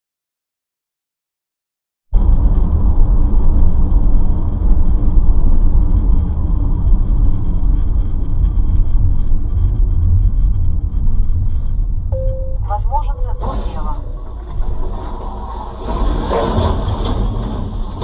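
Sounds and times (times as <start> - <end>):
vehicle rumbling in motion: 2.1 - 18.0.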